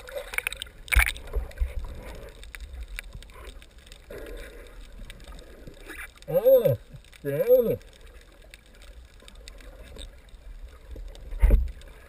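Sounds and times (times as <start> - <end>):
muffled underwater water sloshing: 0.0 - 12.0.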